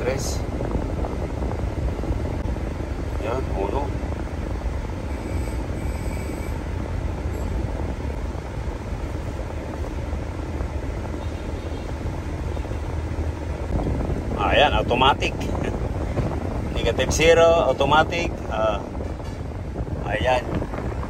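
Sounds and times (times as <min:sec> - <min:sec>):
air conditioning noise: 0:00.0 - 0:21.0.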